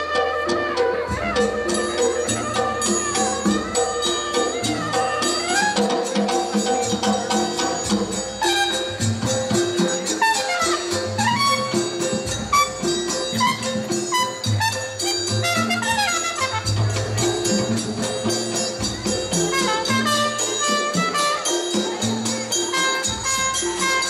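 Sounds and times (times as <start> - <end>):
frame drums beating: 0.0 - 24.0
jingling percussion: 0.0 - 24.0
wind instrument melody: 0.0 - 24.0.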